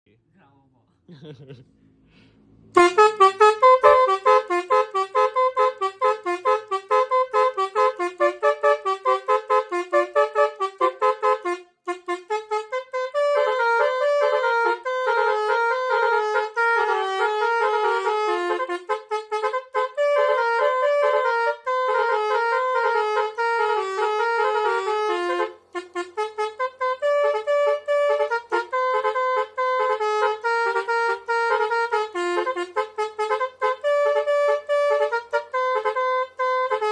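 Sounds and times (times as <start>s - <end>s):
musical bus horn playing tunes: 2.7s - 36.9s.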